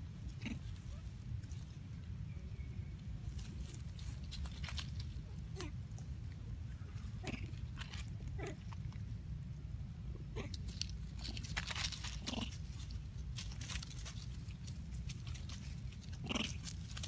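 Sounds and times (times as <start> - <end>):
steady low rumble: 0.0 - 17.0
crackles in leaf litter: 0.1 - 9.2, 10.4 - 17.0.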